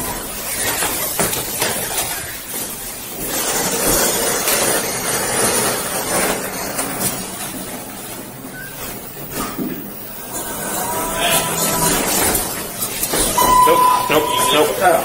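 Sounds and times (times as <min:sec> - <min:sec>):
elevator doors opening: 0:02.1 - 0:15.0.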